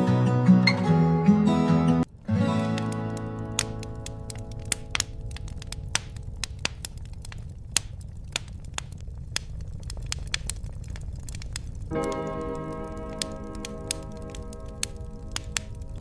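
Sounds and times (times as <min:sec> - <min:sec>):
wood fire crackling: 0:00.0 - 0:16.0
low rumble of flames: 0:02.0 - 0:16.0.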